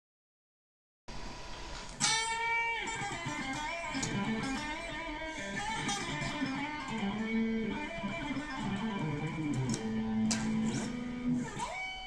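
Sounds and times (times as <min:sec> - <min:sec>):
guitar amplifier hiss and hum: 0:01.1 - 0:12.0.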